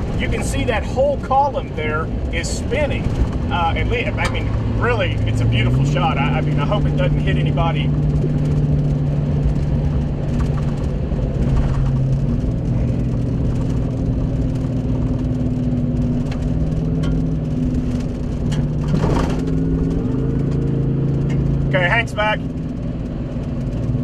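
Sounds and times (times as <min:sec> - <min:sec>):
engine hum inside vehicle: 0:00.0 - 0:24.0
tyre and road rumble: 0:00.0 - 0:24.0.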